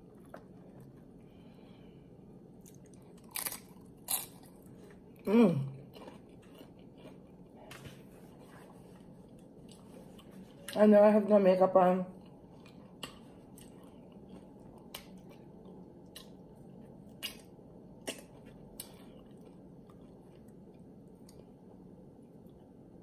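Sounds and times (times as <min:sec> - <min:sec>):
faint steady hum: 0:00.0 - 0:23.0
person chewing chips: 0:02.6 - 0:10.9, 0:12.1 - 0:23.0.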